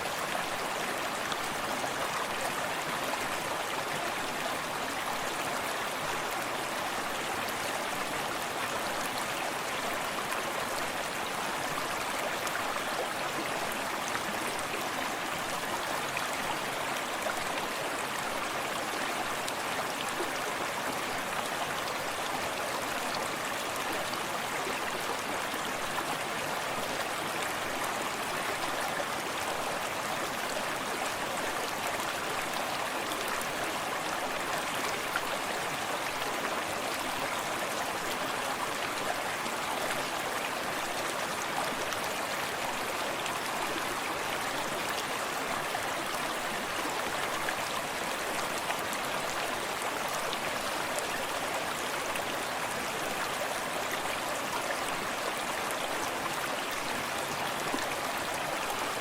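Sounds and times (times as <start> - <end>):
creek running over stones: 0.0 - 59.0.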